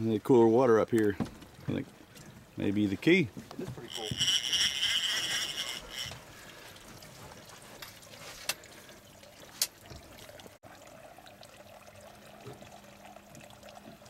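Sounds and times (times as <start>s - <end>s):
water lapping along boat hull: 0.0s - 14.0s.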